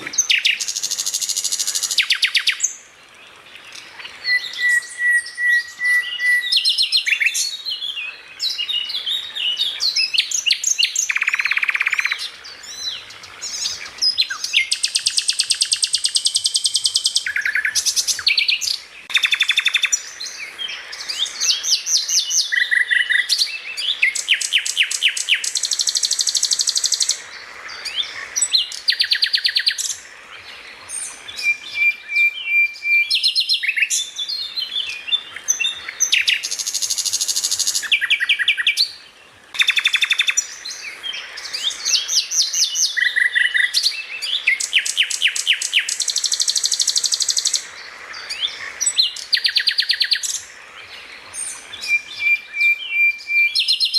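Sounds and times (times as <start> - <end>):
songbird chirps and trills: 0.0 - 53.9.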